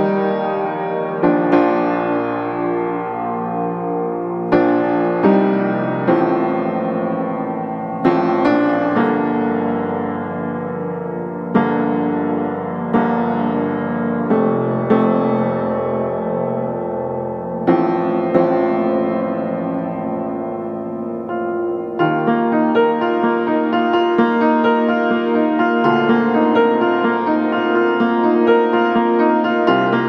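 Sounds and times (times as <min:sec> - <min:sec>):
piano chords ringing: 0:00.0 - 0:30.0.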